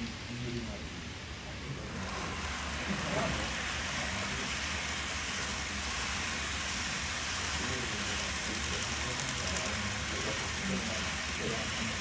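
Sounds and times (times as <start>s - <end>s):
model train rolling hiss: 0.0s - 12.0s.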